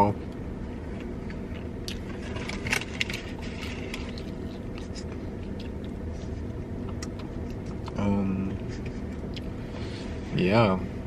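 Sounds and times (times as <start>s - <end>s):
low hum inside car: 0.0s - 11.0s
clicks and rustles of eating: 0.3s - 9.5s.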